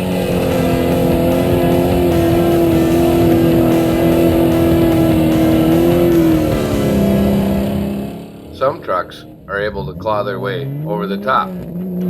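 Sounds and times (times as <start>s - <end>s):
truck engine revving high: 0.0s - 12.0s.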